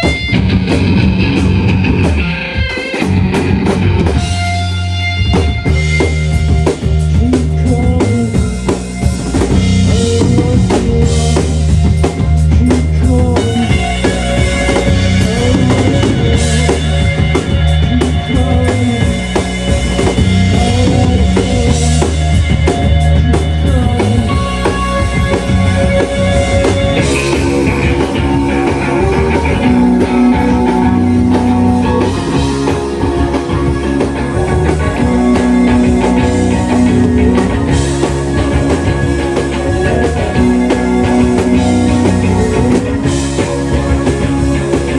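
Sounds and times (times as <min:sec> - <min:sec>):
rock band playing loudly: 0:00.0 - 0:44.9.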